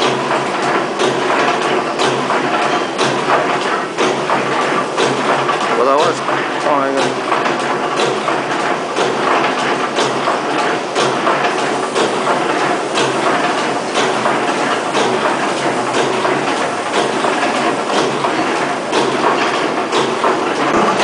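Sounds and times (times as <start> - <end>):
machine clacking: 0.0 - 21.0
machine clicking: 0.0 - 21.0.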